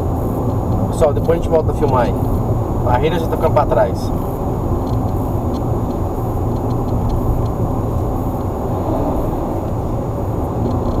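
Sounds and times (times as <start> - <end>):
car driving on highway: 0.0 - 11.0.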